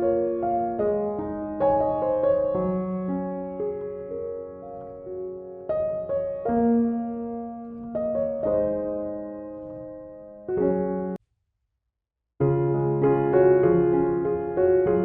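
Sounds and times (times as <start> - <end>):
soft piano music: 0.0 - 11.2, 12.4 - 15.0.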